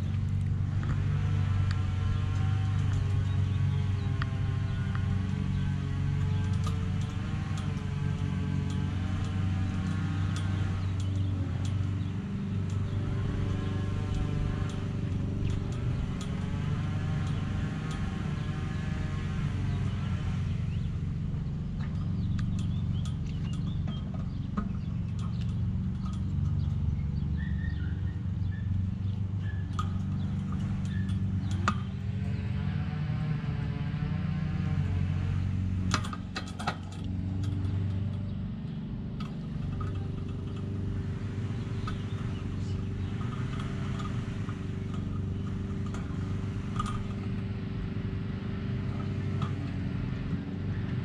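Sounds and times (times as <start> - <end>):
sharp clicks: 0.0 - 20.9, 21.8 - 32.4, 34.8 - 47.7
engine running steadily: 0.0 - 51.0
small birds chirping: 0.0 - 51.0
steady low hum: 0.0 - 51.0.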